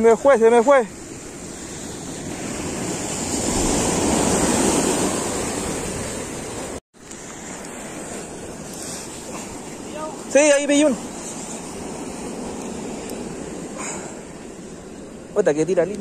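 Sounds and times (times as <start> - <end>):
ocean surf over rocks: 0.0 - 16.0.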